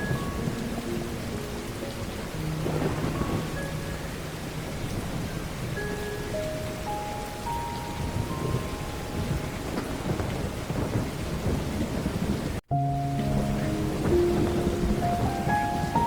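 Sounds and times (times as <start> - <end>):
soft sustained music: 0.0 - 11.0, 12.7 - 16.0
heavy rain falling: 0.0 - 16.0
low rumbling thunder: 0.0 - 16.0.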